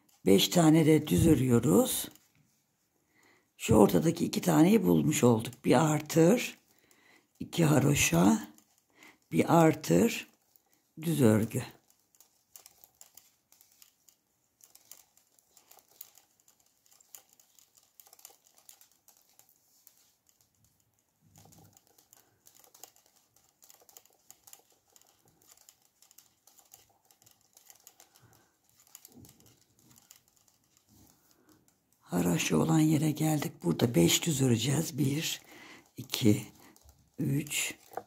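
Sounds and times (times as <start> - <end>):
knitting needles clicking: 0.0 - 2.4, 3.6 - 38.0.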